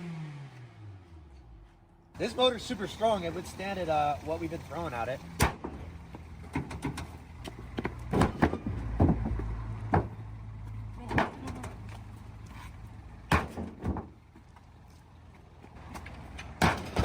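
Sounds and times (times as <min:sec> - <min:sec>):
car engine running: 0:00.0 - 0:14.4.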